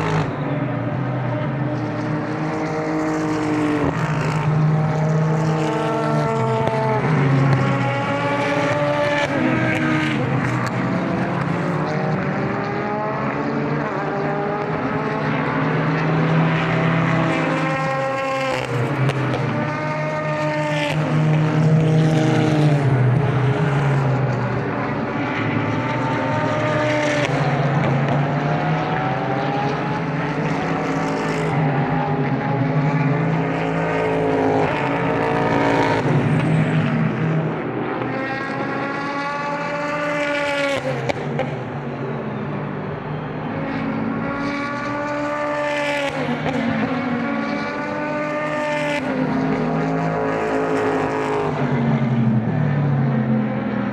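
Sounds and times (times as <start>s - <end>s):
race cars passing at speed: 0.0s - 53.9s.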